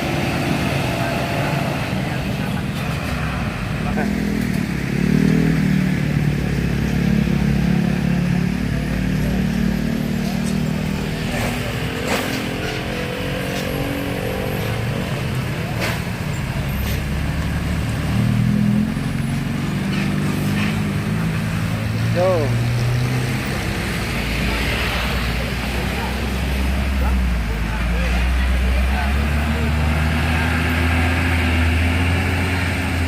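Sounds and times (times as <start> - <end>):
road traffic engines humming: 0.0 - 33.0.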